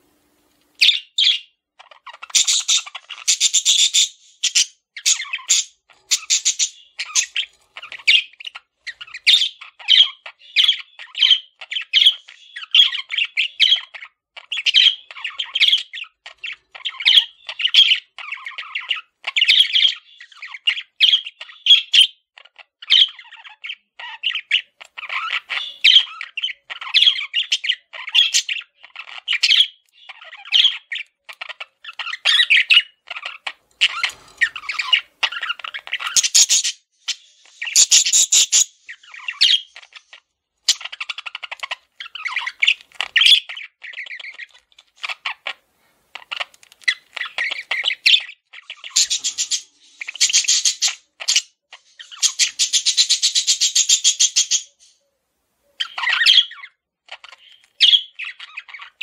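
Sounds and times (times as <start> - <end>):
budgerigars chirping and chattering: 0.7 - 55.0, 55.7 - 59.0.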